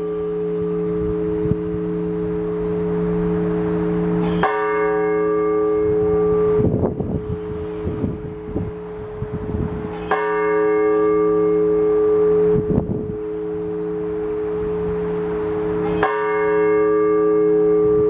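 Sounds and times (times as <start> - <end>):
large church bell ringing: 0.0 - 18.0
wind buffeting microphone: 0.0 - 18.0.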